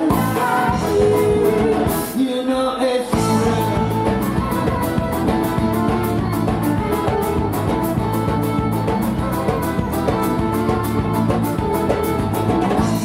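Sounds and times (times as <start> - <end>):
fast drum beat: 0.0 - 2.2, 3.2 - 13.0
guitar: 0.0 - 13.0
live band instrumental: 0.0 - 13.0.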